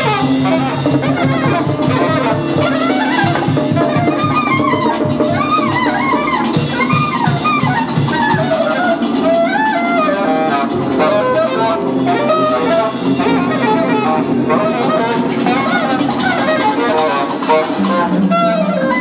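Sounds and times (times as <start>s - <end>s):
hand-drum percussion: 0.0s - 19.0s
saxophone improvising: 0.0s - 19.0s.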